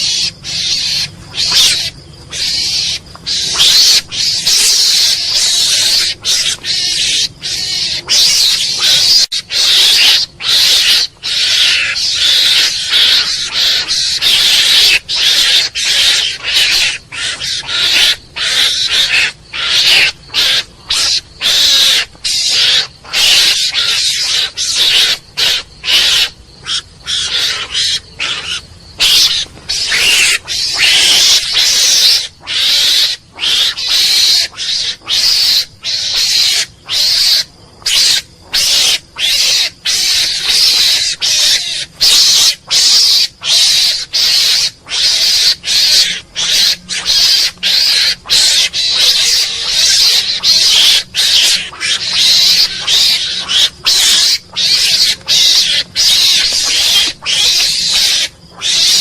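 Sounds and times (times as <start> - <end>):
mongoose calling harshly: 0.0 - 59.0.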